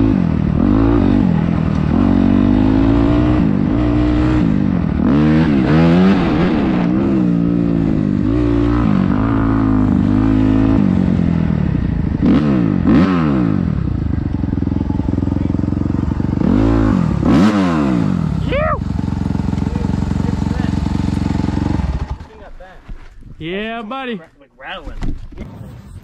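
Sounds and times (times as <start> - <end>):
dirt bike engine revving: 0.0 - 22.6.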